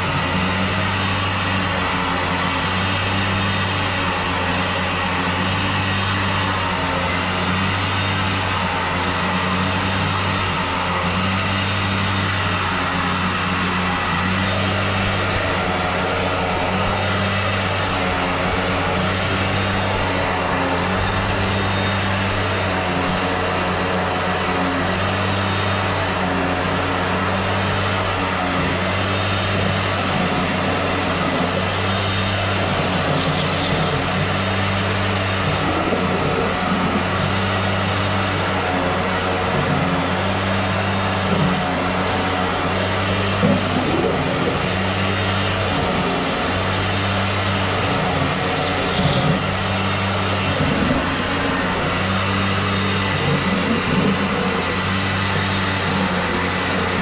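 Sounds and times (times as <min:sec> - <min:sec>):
motor humming: 0:00.1 - 0:57.0.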